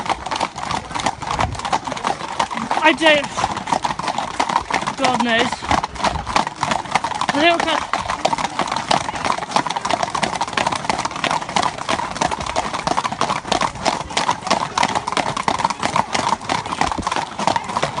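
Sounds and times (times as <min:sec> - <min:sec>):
horses' hooves clip-clopping: 0:00.0 - 0:18.0.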